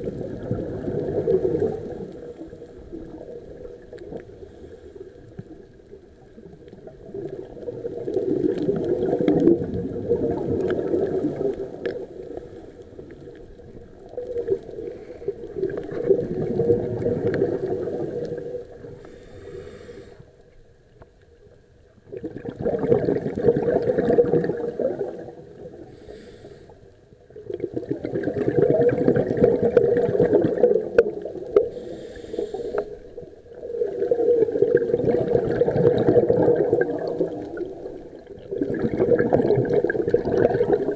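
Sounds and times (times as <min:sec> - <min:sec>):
underwater breath bubbles: 0:00.0 - 0:05.6, 0:06.4 - 0:20.4, 0:22.0 - 0:40.9.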